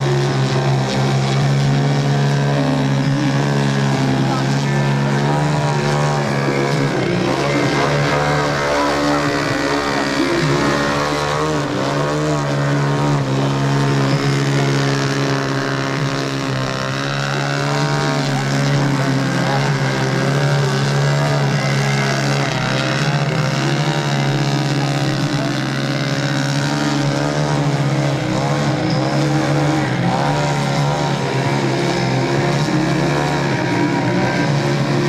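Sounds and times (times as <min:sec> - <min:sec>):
model plane engine and propeller: 0:00.0 - 0:35.0.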